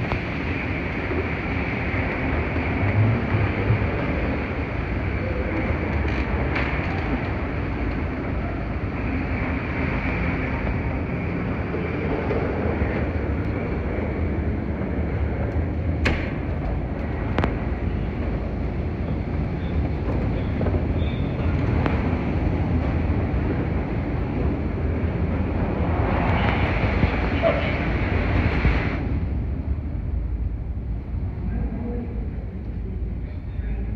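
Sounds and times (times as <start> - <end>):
escalators rumbling: 0.0 - 33.9.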